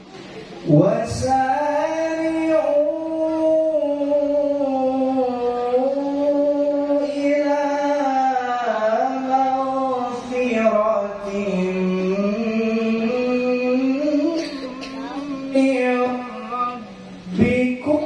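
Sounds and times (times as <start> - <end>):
man reciting melodically: 0.6 - 18.0.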